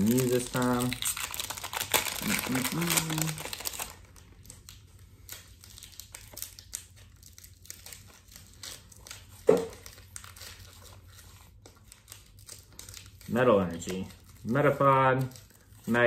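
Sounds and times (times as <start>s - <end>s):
cards being handled: 0.0s - 16.0s
foil wrapper crinkling and tearing: 0.0s - 16.0s.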